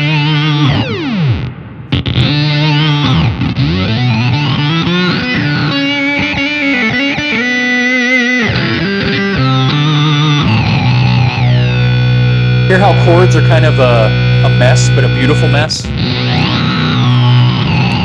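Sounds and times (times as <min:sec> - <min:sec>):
electric guitar chords with synth pedal: 0:00.0 - 0:18.0.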